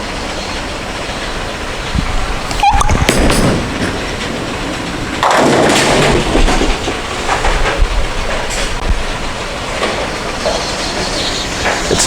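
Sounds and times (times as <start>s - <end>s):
bowling alley rumble: 0.0s - 12.0s
bowling pins clattering: 0.0s - 12.0s
bowling ball rolling: 0.9s - 12.0s
scattered knocks: 1.0s - 12.0s.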